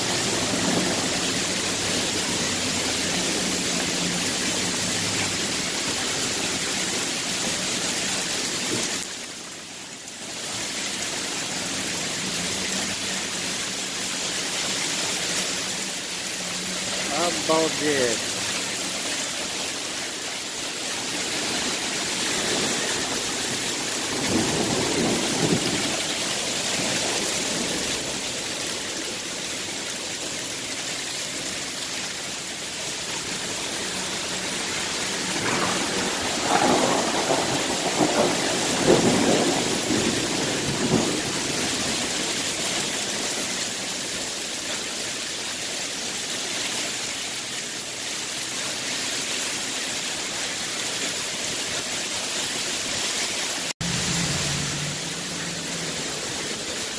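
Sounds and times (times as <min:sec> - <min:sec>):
heavy hail falling: 0:00.0 - 0:54.0, 0:54.9 - 0:56.9.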